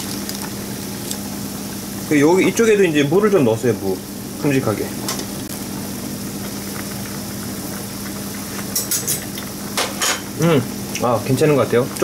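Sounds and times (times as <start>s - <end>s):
liquid bubbling in a pot: 0.0s - 12.0s
steady low hum: 0.0s - 12.0s.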